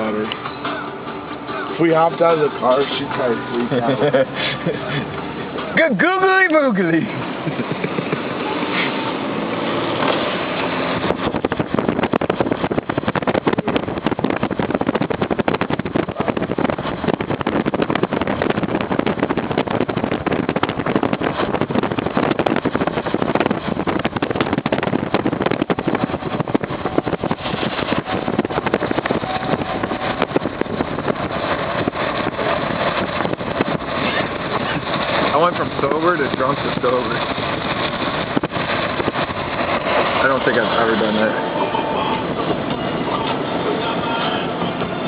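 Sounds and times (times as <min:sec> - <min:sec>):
car cabin rushing rumble: 0:00.0 - 0:45.0.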